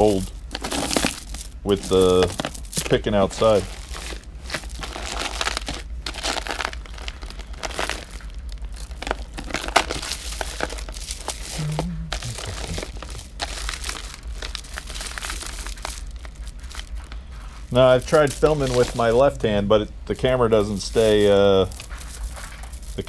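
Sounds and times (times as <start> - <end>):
bead necklaces rustling and clinking: 0.0 - 19.3, 20.5 - 23.0.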